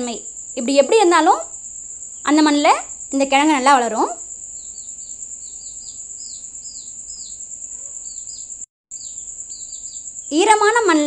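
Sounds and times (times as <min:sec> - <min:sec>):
cricket trill: 0:00.0 - 0:11.0
small birds chirping: 0:00.0 - 0:11.0.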